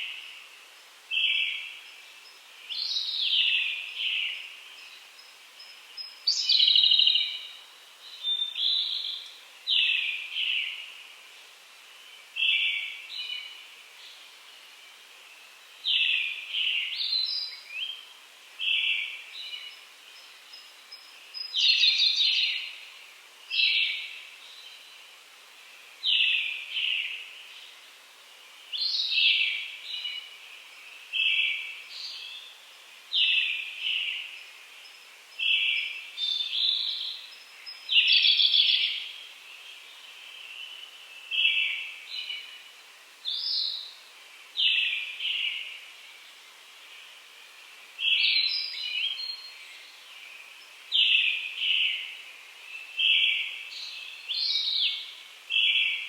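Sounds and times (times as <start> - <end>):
faint background hiss: 0.0 - 56.0
songbirds singing: 0.0 - 56.0.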